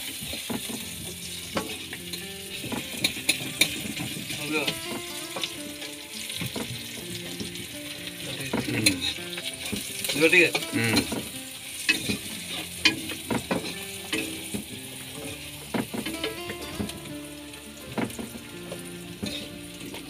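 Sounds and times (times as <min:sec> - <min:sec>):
food sizzling in oil: 0:00.0 - 0:20.0
metal spatula scraping a pan: 0:00.1 - 0:04.7, 0:05.4 - 0:16.1, 0:17.9 - 0:20.0.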